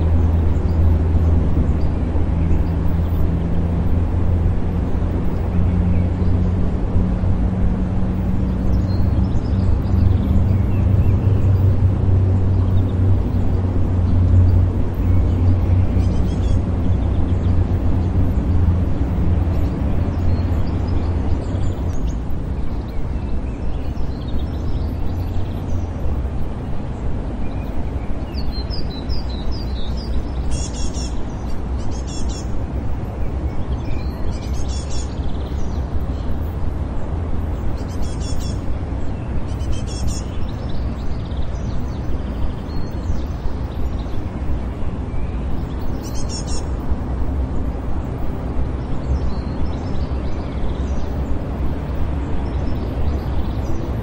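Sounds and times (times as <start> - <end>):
birds chirping: 0.0 - 54.0
distant traffic rumble: 0.0 - 54.0.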